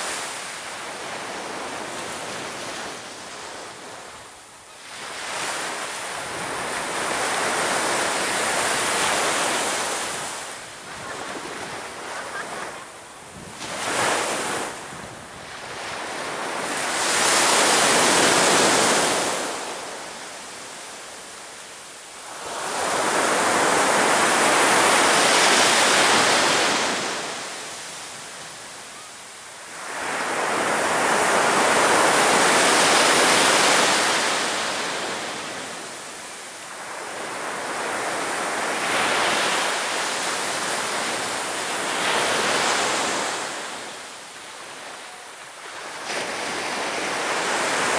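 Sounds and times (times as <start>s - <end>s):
sea waves breaking on beach: 4.8s - 21.2s, 22.2s - 28.8s, 29.6s - 47.9s.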